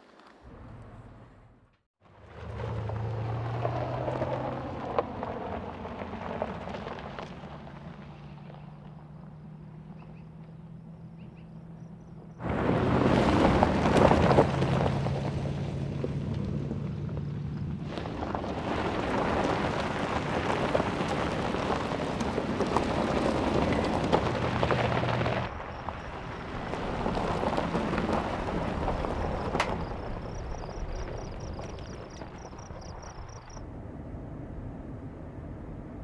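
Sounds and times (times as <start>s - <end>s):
tyres crackling over gravel: 0.0s - 1.1s, 2.2s - 9.6s, 12.4s - 33.6s
car engine: 0.4s - 36.0s.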